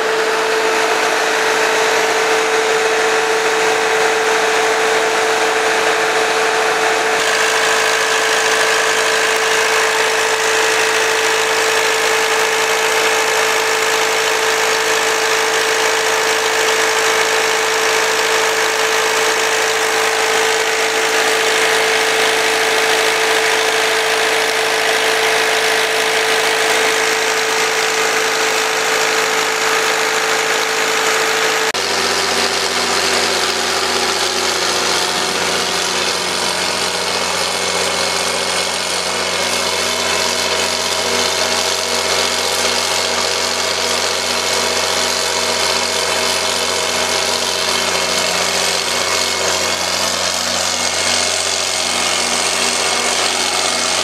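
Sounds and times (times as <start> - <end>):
deeper diesel engine running: 0.0 - 54.0
diesel engine running: 0.0 - 54.0.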